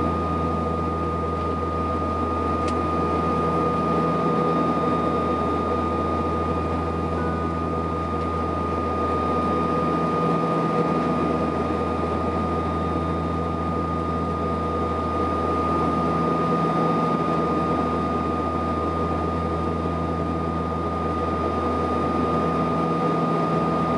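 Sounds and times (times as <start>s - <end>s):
high engine whine: 0.0s - 23.9s
low propeller hum: 0.0s - 23.9s.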